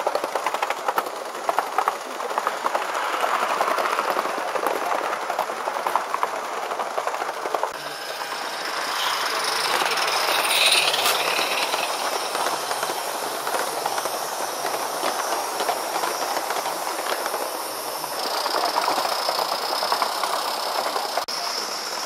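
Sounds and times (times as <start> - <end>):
small wheels rattling over rails: 0.0 - 22.0
steady steam hiss: 0.0 - 22.0.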